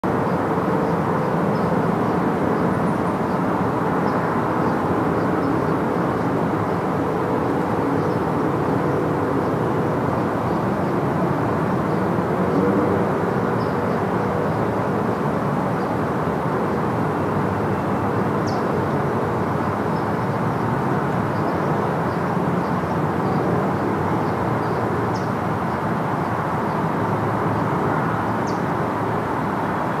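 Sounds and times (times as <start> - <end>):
road and tyre noise: 0.0 - 30.0.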